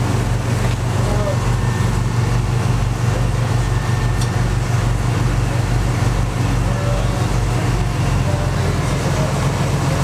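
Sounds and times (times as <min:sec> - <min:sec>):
boat engines droning: 0:00.0 - 0:10.0
water rushing: 0:00.0 - 0:10.0
wind: 0:00.0 - 0:10.0.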